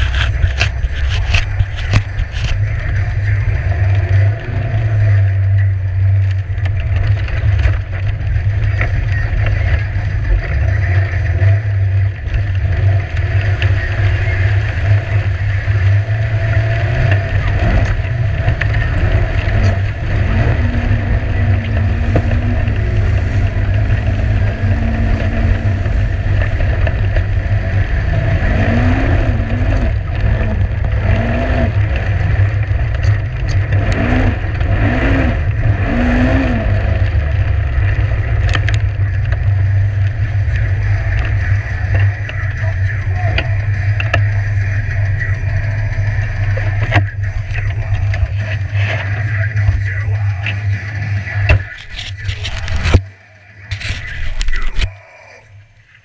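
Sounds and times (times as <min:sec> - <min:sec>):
engine running under load: 0:00.0 - 0:56.0.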